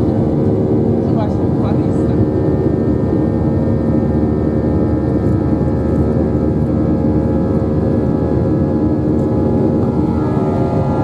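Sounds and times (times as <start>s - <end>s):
jet engines droning: 0.0s - 11.0s.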